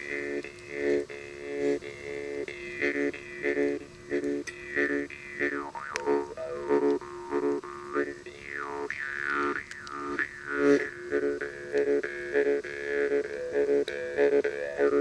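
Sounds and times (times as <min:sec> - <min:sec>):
jaw harp buzzing drone: 0:00.0 - 0:15.0.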